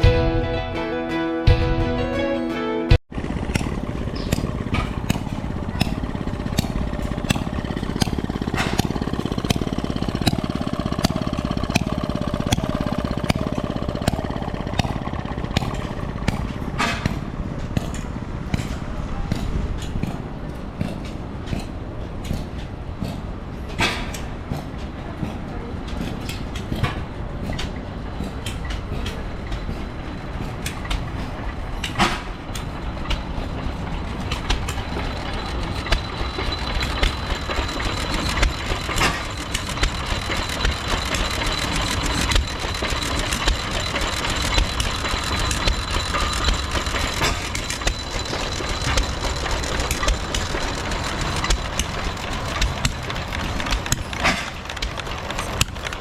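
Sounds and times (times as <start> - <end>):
engines running: 3.1 - 56.0
sharp clicks and knocks: 3.2 - 56.0.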